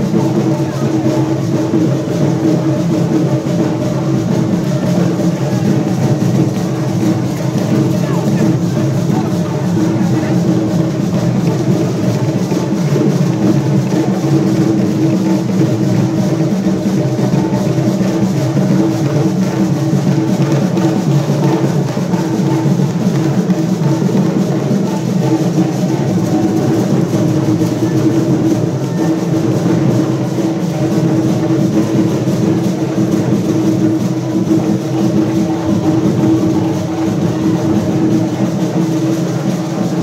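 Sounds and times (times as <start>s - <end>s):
loud drum-led music: 0.0s - 40.0s.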